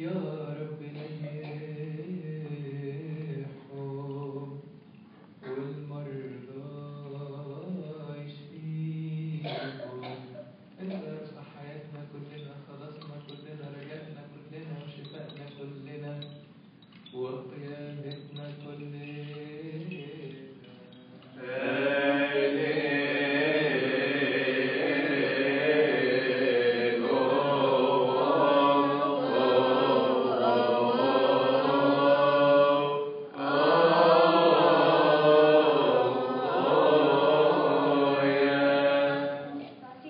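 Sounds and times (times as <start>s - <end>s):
liturgical hymn chanted: 0.0s - 4.8s, 5.4s - 10.4s, 17.1s - 40.0s.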